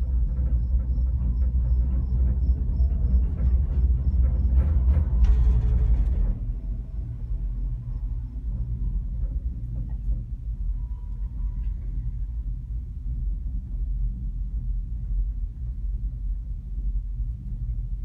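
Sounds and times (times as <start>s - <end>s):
gondola cabin rumble: 0.0s - 18.0s.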